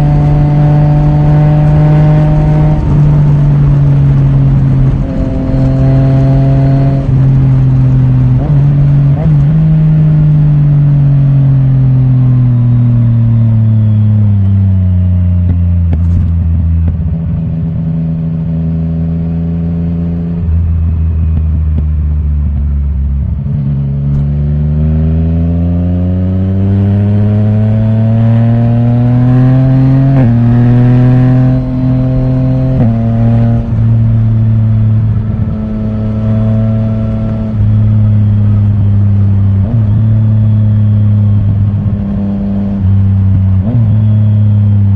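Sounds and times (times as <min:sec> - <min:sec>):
motorcycle engine: 0:00.0 - 0:44.9.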